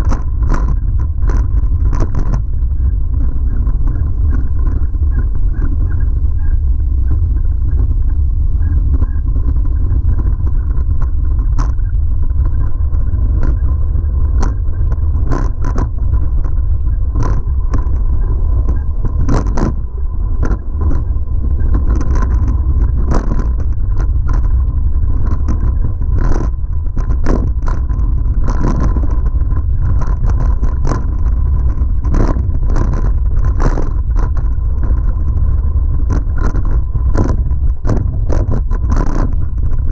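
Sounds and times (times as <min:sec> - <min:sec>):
bike clicks and rattles: 0:00.0 - 0:39.9
wind rumble on microphone: 0:00.0 - 0:39.9.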